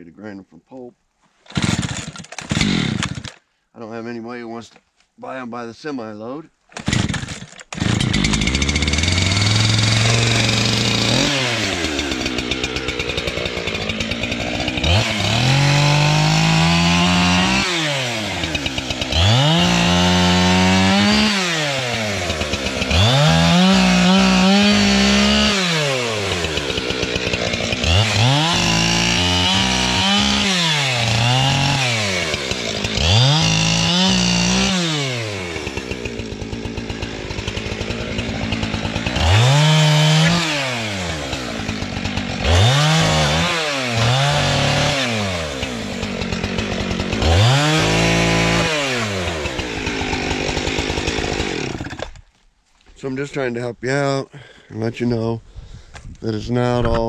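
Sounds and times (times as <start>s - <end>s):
chainsaw revving and idling: 1.5s - 3.4s, 6.7s - 52.4s.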